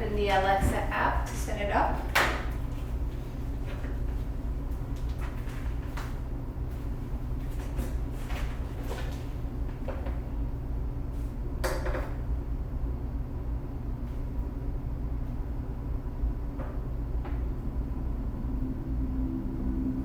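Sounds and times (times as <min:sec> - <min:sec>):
low background rumble: 0:00.0 - 0:11.6, 0:12.2 - 0:20.0.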